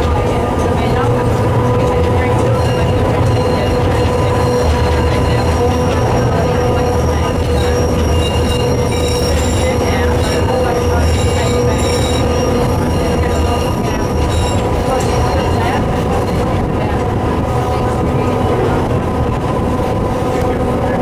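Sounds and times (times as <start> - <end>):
high wheel squeal: 0.0 - 19.8
steady whine: 0.0 - 21.0
tram wheels rumbling on rail: 0.0 - 21.0.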